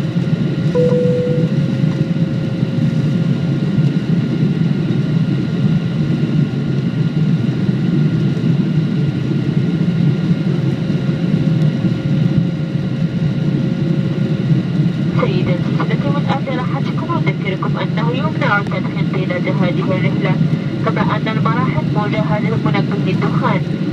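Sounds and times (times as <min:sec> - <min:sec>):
airliner cabin rumble: 0:00.0 - 0:23.9
faint steady whines: 0:00.2 - 0:05.4, 0:07.1 - 0:23.9.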